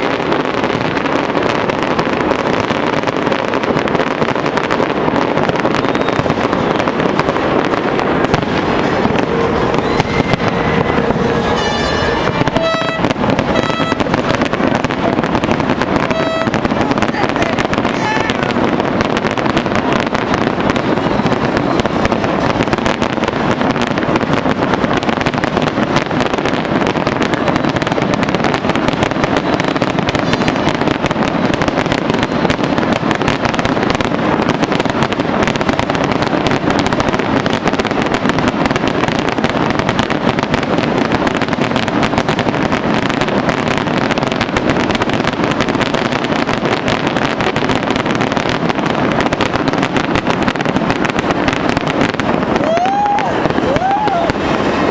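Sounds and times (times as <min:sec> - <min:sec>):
fireworks bangs and crackling: 0:00.0 - 0:54.9.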